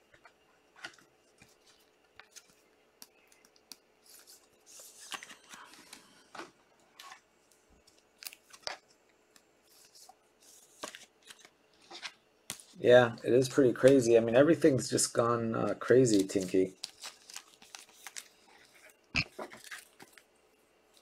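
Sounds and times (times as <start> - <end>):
trading cards rustling and clicking: 0.2 - 21.0.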